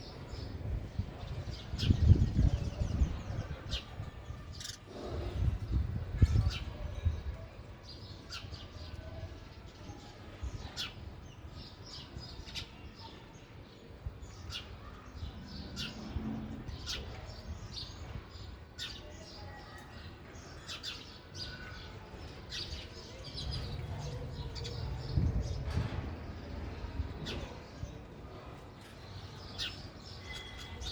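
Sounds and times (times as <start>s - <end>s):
sparrows chirping: 0.0s - 30.9s.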